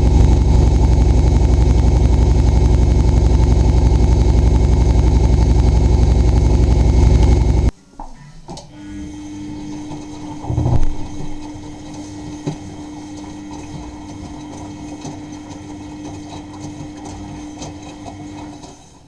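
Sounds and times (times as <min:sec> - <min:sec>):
washing machine humming: 0:00.0 - 0:07.7, 0:08.4 - 0:19.0.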